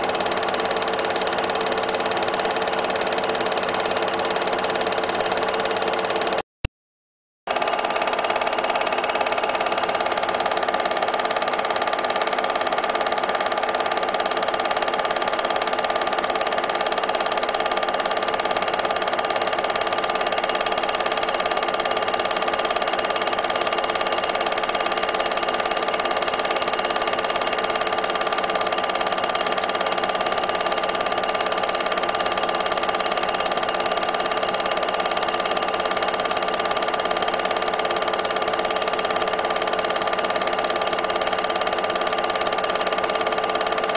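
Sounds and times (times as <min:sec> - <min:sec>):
film projector whirring: 0:00.0 - 0:06.4, 0:07.5 - 0:43.9.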